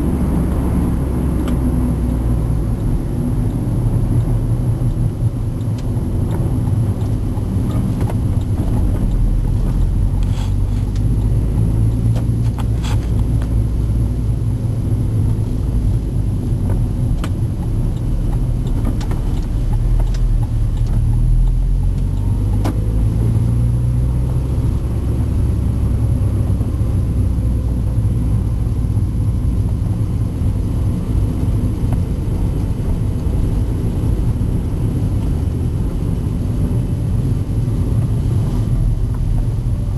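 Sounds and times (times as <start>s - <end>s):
car rumbling on the move: 0.0s - 39.9s.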